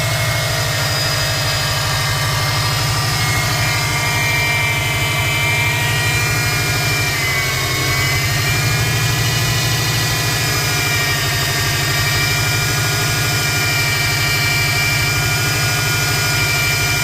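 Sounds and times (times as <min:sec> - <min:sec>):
car engine running: 0:00.0 - 0:17.0
high-pitched whine: 0:00.0 - 0:17.0.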